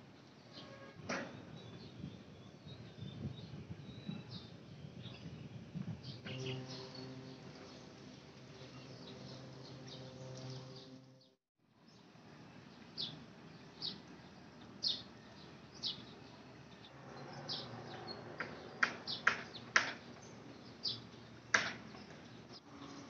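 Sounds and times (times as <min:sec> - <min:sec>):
faint outdoor background: 0:00.0 - 0:23.0
birds chirping: 0:00.4 - 0:23.0.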